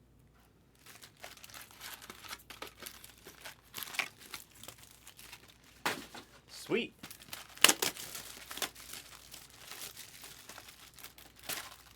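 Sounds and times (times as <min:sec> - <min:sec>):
foil wrapper crinkling and tearing: 0:00.7 - 0:11.9.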